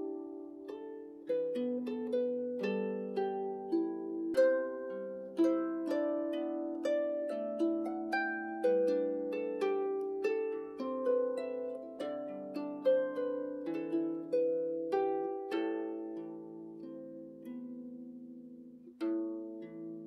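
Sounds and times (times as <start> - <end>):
harp playing slow melody: 0.0 - 20.0.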